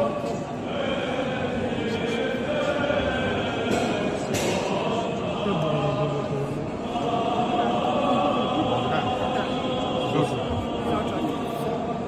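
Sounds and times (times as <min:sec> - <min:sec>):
crowd murmur: 0:00.0 - 0:12.0
voices chanting a hymn: 0:00.0 - 0:12.0.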